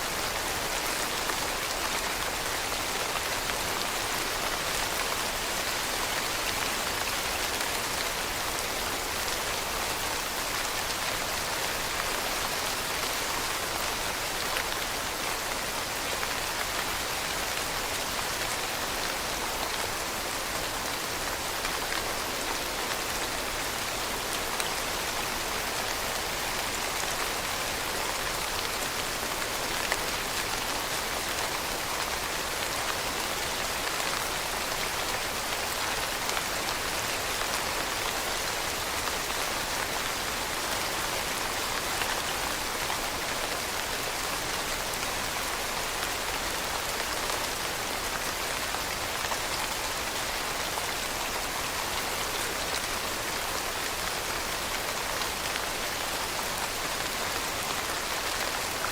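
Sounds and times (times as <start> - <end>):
dense rain falling: 0.0 - 58.9.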